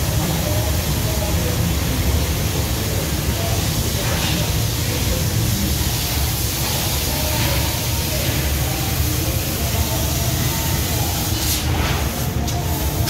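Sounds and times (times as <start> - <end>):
laser cutter hiss and rumble: 0.0 - 13.0.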